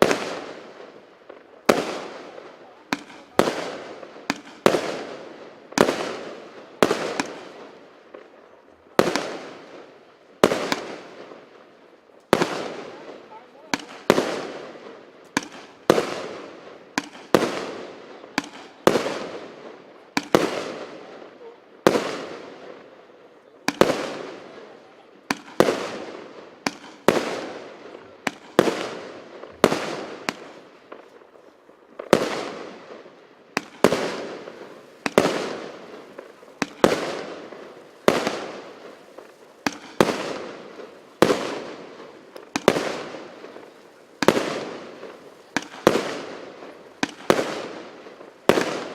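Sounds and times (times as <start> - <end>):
fireworks reports: 0.0 - 48.9.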